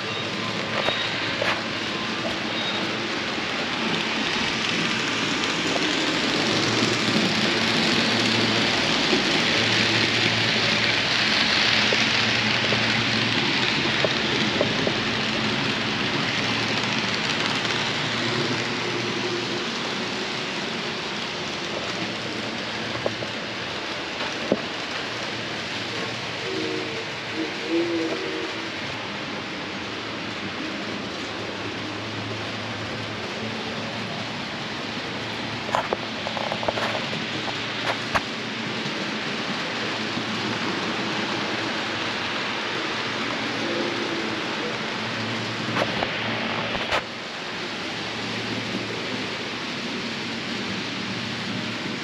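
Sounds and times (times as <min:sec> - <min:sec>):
model train wheels rattling on rails: 0:00.0 - 0:52.0.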